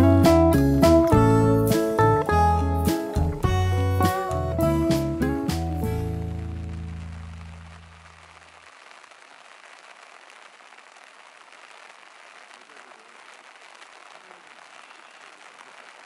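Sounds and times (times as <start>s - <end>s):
soft rain falling: 0.6s - 16.0s.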